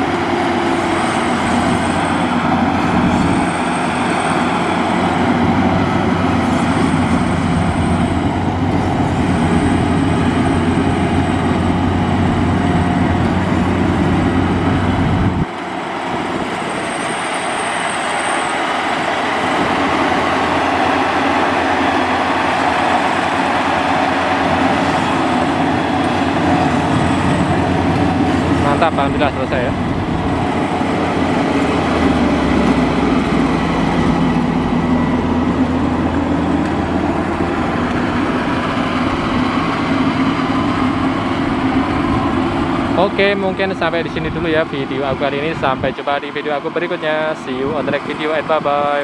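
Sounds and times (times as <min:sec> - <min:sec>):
combine harvester engine droning: 0:00.0 - 0:49.0.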